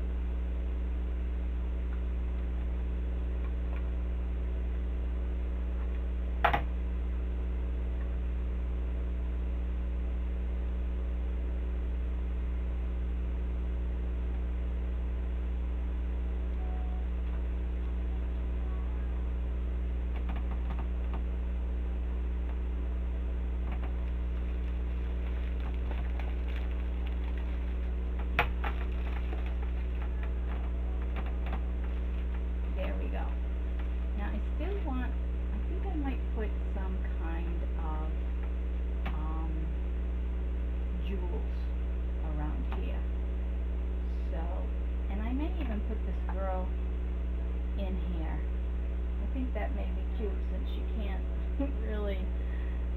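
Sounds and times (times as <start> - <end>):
low electrical hum: 0.0 - 52.9.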